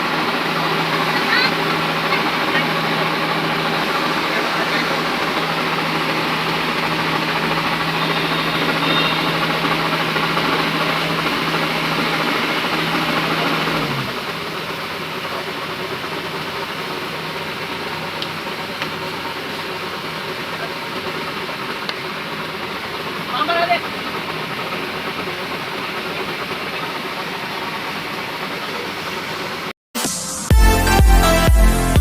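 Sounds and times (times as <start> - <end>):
combine harvester engine running: 0.0 - 29.7.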